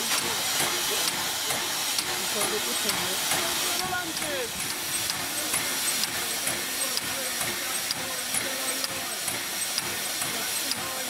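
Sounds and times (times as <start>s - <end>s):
faint voices: 0.0s - 11.0s
steam hissing from locomotive: 0.0s - 11.0s.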